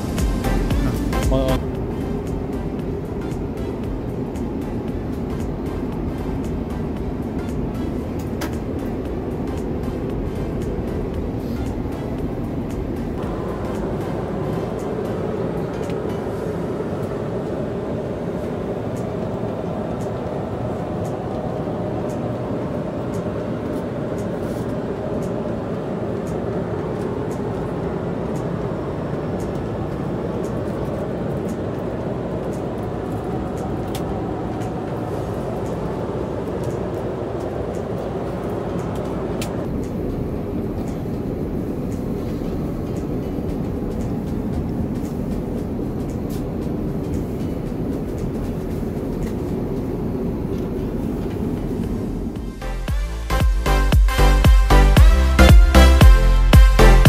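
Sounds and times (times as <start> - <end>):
airliner cabin rumble: 0.0 - 52.7.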